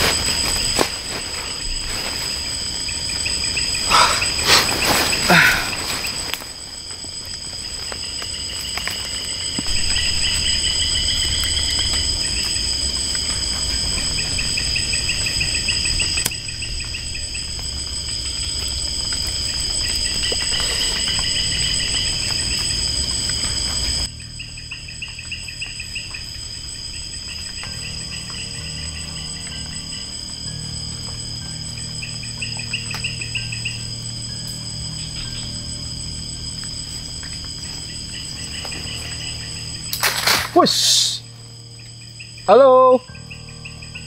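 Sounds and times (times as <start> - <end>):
insect chirping trills: 0.0 - 44.0
insects buzzing high-pitched: 0.0 - 44.0.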